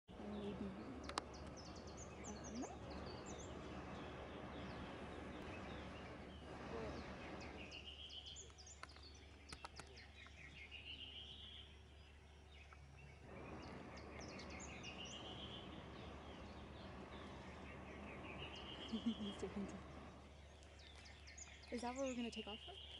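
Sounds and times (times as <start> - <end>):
hot-air balloon burner rushing: 0.1 - 11.6, 12.8 - 22.9
bird singing rising notes: 0.1 - 22.9
high bird chirps: 0.3 - 22.9.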